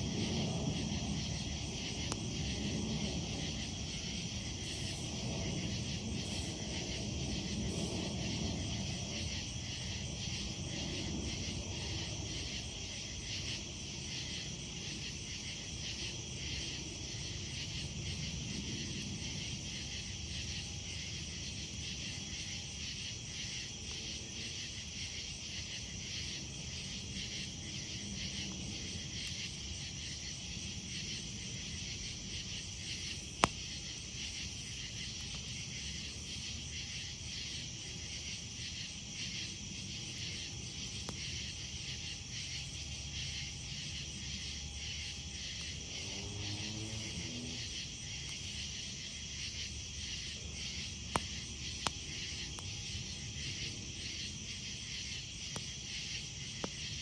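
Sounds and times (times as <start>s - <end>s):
campfire burning: 0.0s - 42.4s, 47.1s - 57.0s
campfire crack: 0.0s - 42.7s, 45.4s - 57.0s
night insects chirping: 0.0s - 57.0s.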